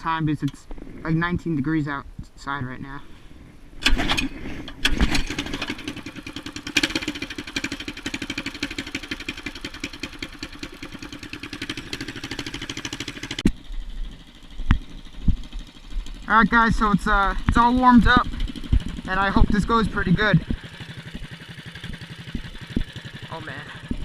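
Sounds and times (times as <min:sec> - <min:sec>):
mini bike engine idling: 0:03.8 - 0:24.0.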